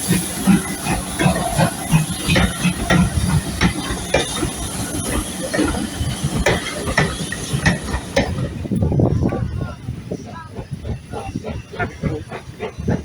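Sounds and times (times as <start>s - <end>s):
steam locomotive hissing: 0.0s - 13.0s
knocks and clanks: 0.1s - 13.0s.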